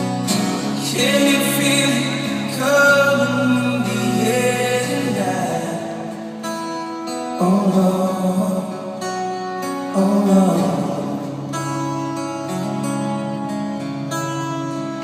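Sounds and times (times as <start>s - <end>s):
live band sustained chords: 0.0s - 15.0s.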